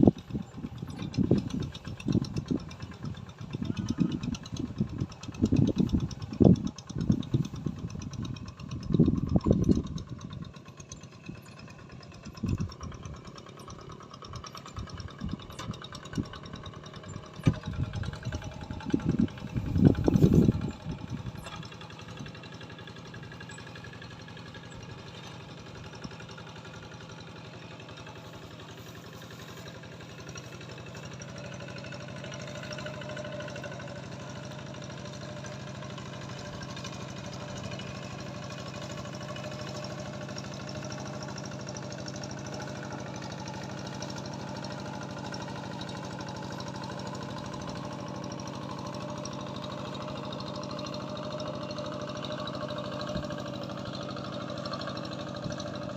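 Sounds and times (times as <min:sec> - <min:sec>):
engine humming steadily: 0:00.0 - 0:55.9.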